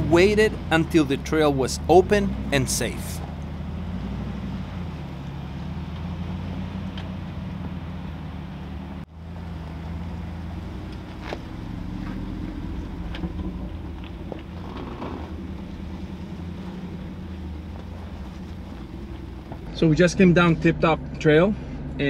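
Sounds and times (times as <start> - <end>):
engines rumbling at low speed: 0.0 - 22.0.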